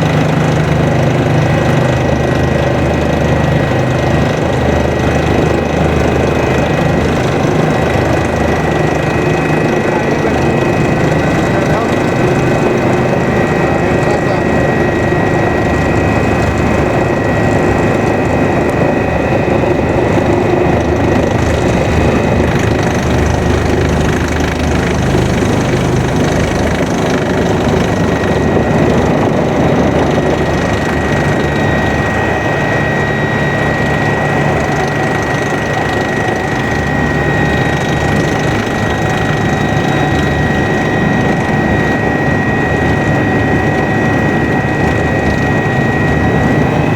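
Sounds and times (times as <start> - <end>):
helicopter rotor and turbine rush: 0.0 - 46.9
high turbine whine: 0.0 - 46.9.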